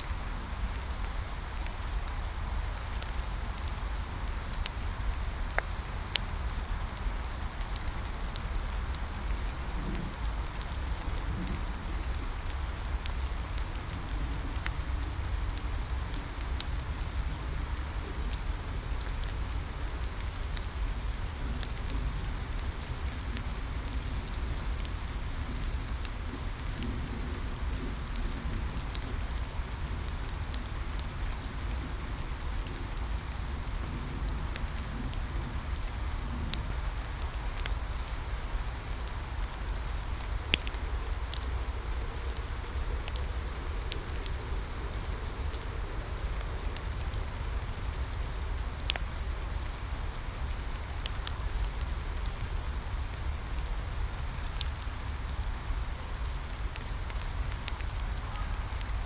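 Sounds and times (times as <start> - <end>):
bonfire crackling and popping: 0.0 - 59.0
steady rain falling: 0.0 - 59.0.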